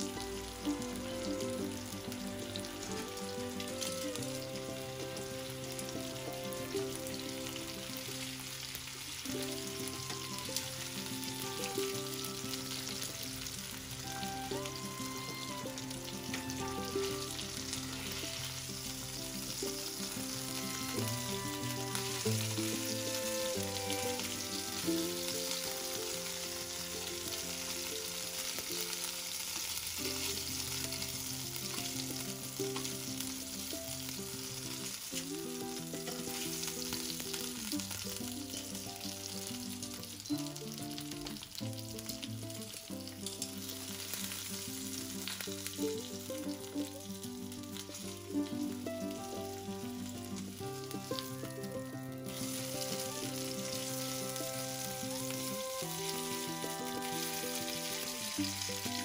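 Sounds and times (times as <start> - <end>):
fish sizzling in hot oil: 0.0 - 59.0
soft background music: 0.0 - 59.0.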